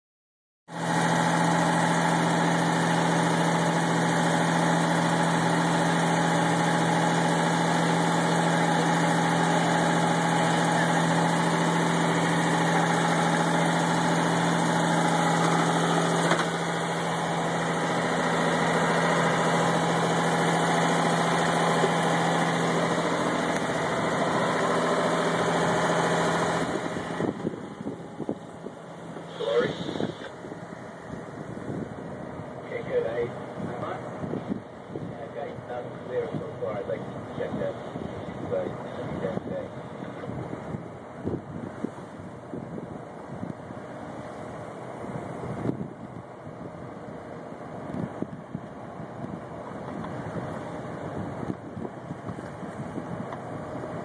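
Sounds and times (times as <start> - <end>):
boat engine humming: 0.7 - 54.0.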